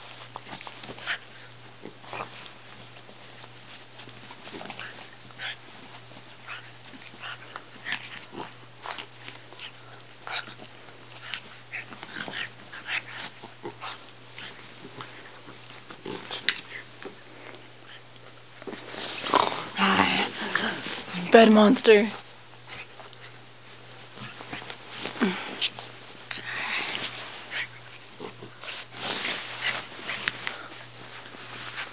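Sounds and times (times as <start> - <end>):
dogs breathing while play-wrestling: 0.0 - 31.9
dogs scuffling: 0.0 - 31.9
low steady hum: 0.0 - 31.9.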